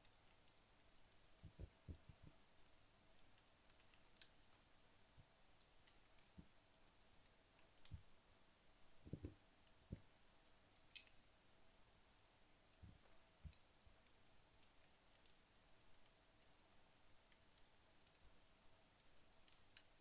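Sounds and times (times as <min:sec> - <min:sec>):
soft low pops from embers: 0:00.0 - 0:11.4, 0:12.3 - 0:20.0.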